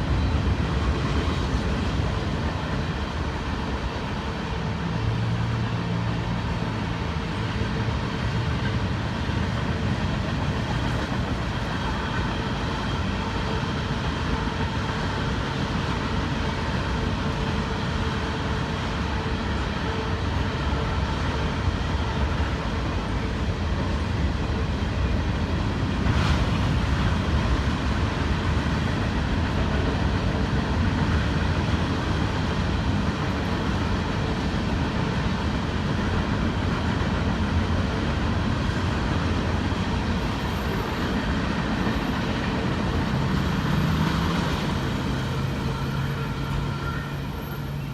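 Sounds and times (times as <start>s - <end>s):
train wheels rumbling on track: 0.0s - 47.9s.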